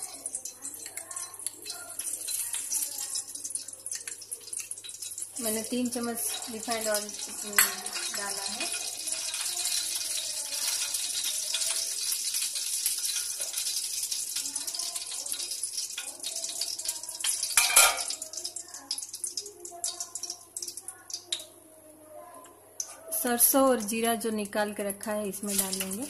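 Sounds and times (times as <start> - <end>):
hot oil hissing and crackling: 0.0 - 21.6, 25.4 - 26.0.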